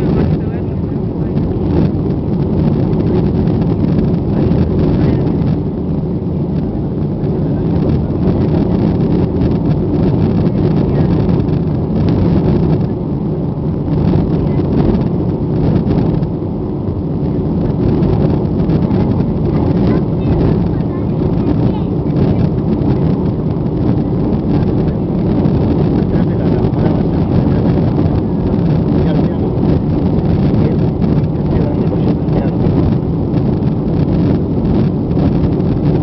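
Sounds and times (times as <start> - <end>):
jet engine cabin rumble: 0.0 - 36.0
rushing airflow: 0.0 - 36.0.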